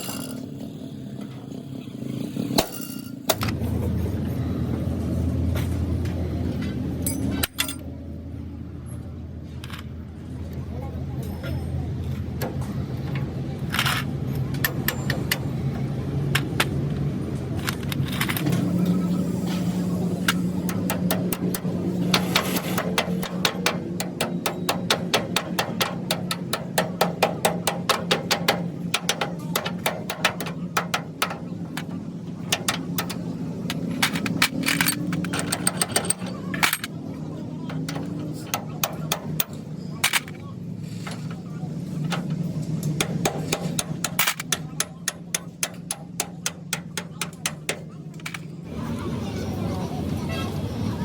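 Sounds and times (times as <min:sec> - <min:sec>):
engine running: 0:00.0 - 0:46.4.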